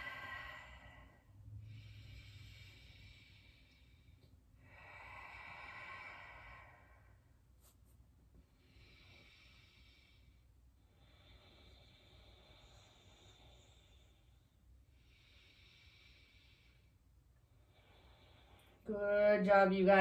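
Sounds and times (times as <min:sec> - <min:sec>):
slow deep breathing: 0:00.0 - 0:07.7, 0:08.4 - 0:18.9.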